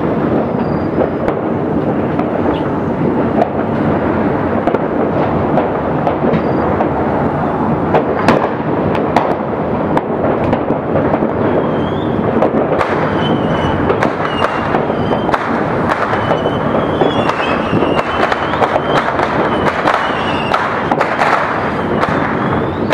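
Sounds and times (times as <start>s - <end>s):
fireworks crackling and banging: 0.0s - 22.9s
high firework whistles: 0.0s - 22.9s.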